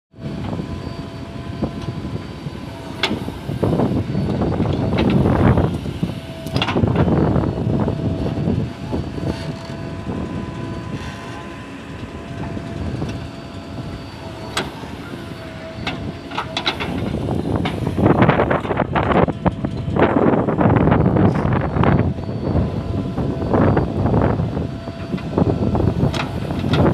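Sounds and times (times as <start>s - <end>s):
diesel engine surging under load: 0.1s - 26.9s
thin steady whine: 0.1s - 26.9s.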